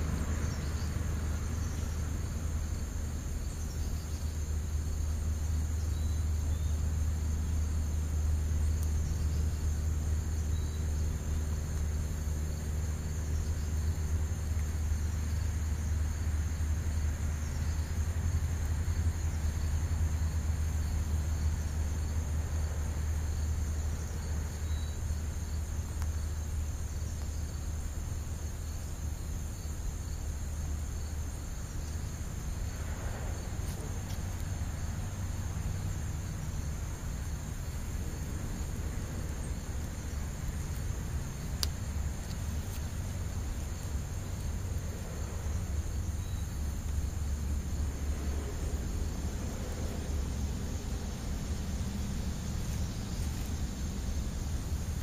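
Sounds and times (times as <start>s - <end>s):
constant low rumble: 0.0s - 55.0s
high-pitched insect chorus: 0.0s - 55.0s.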